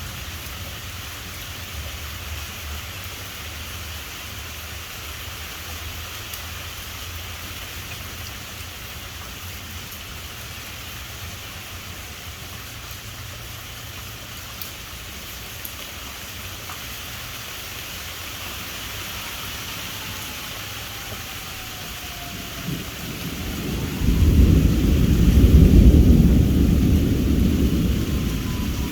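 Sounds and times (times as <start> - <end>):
steady rain falling: 0.0 - 28.9.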